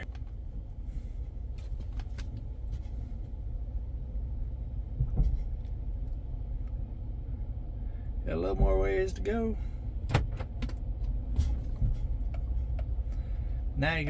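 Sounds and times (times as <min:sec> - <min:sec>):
truck engine rumbling: 0:00.0 - 0:14.0.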